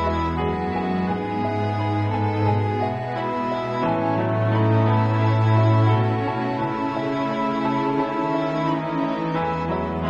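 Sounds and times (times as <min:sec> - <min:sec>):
slow sad background music: 0:00.0 - 0:10.0.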